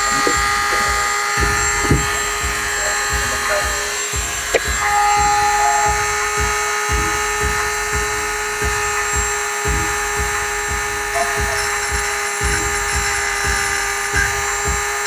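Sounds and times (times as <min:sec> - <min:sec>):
rotary tool grinding metal: 0:00.0 - 0:15.0.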